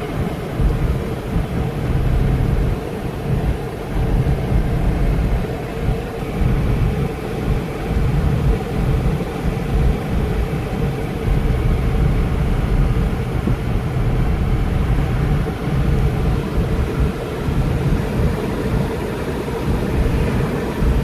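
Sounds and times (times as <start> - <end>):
faint hum: 0.0 - 21.0
low thunder rumble: 0.0 - 21.0.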